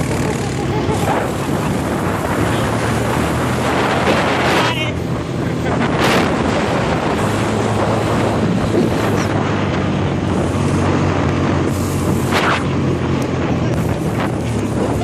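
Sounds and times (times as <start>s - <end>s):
atv engine running: 0.0s - 15.0s
wind buffeting microphone: 0.0s - 15.0s.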